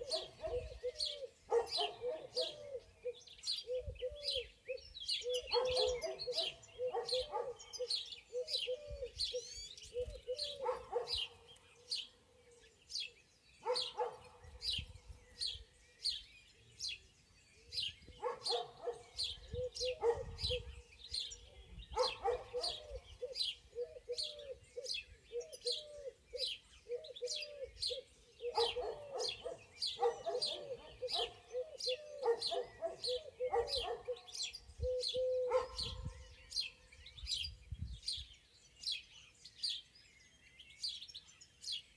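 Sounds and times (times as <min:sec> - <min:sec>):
lower bird calls: 0:00.0 - 0:41.9.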